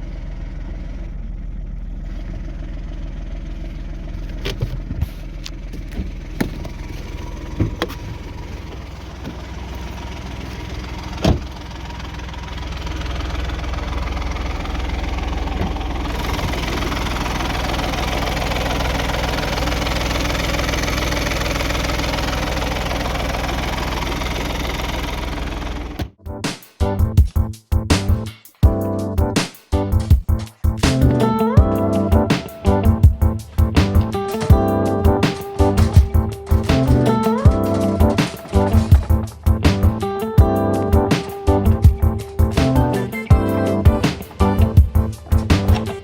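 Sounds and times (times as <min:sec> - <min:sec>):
noisy clutch: 0:00.0 - 0:26.1, 0:27.2 - 0:46.0
car engine idling: 0:00.0 - 0:26.2, 0:27.8 - 0:46.0.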